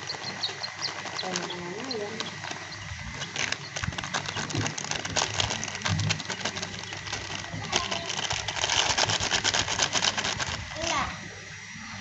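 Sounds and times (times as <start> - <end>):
plastic wrapper crinkling: 0.0 - 11.1.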